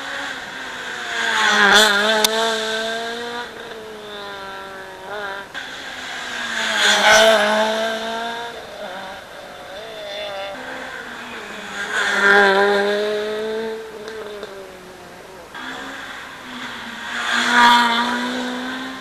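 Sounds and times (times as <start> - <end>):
engine blips: 0.0 - 19.0
rally cars passing at speed: 0.0 - 19.0.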